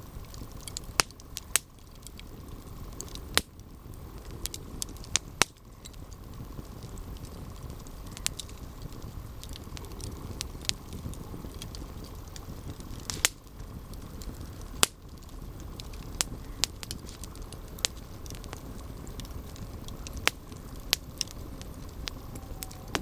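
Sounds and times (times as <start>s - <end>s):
burning wood crackling and popping: 0.0s - 23.0s
campfire rumble: 0.0s - 23.0s.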